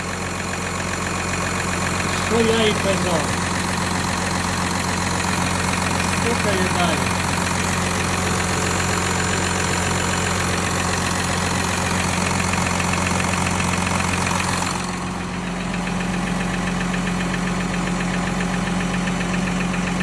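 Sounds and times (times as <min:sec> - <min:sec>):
diesel engine idling with knock: 0:00.0 - 0:20.0.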